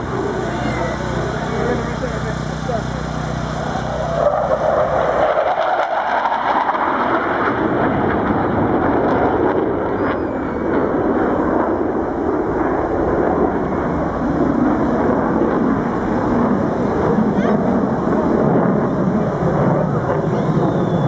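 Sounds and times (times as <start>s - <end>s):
fighter jet flying past: 0.0s - 21.0s.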